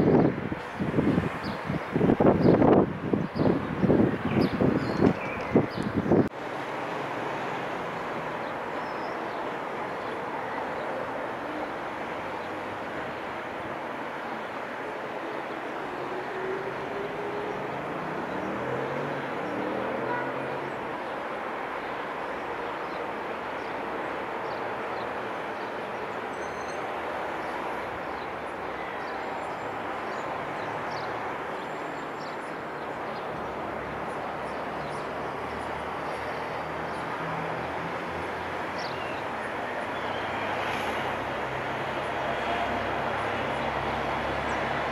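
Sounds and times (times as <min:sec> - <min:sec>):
rushing background noise: 0:00.0 - 0:44.9.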